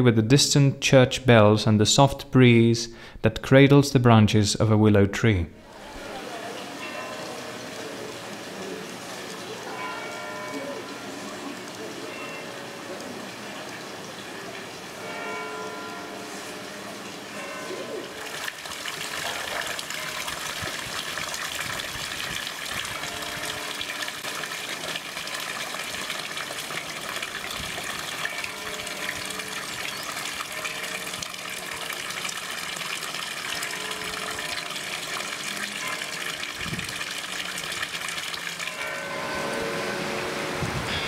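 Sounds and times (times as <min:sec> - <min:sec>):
fountain water splashing into pond: 0:05.7 - 0:40.5.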